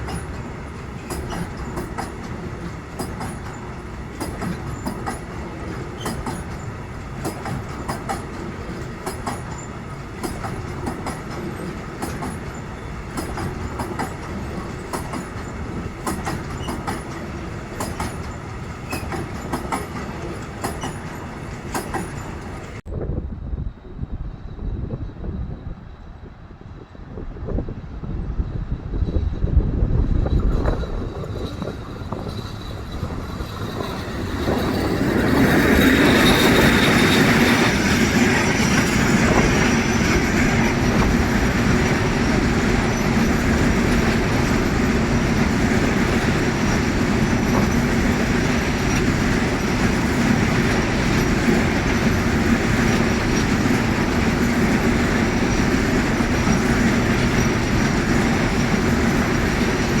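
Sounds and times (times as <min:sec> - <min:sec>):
train rumbling past on rails: 0:00.0 - 1:00.0.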